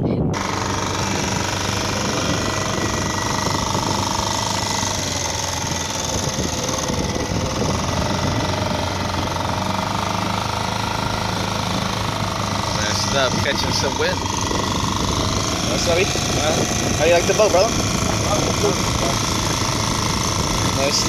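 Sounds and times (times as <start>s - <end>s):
outboard motor running: 0.2s - 21.0s.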